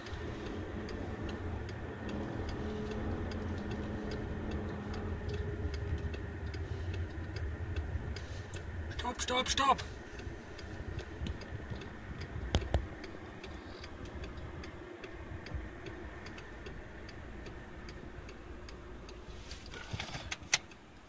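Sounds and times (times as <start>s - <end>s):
car indicator ticking: 0.0s - 19.4s
car engine idling rumble: 0.0s - 21.0s.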